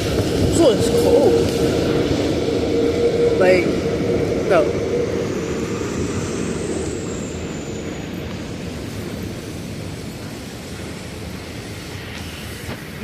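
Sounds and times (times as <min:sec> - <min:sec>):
subway train rumbling on tracks: 0:00.0 - 0:13.0.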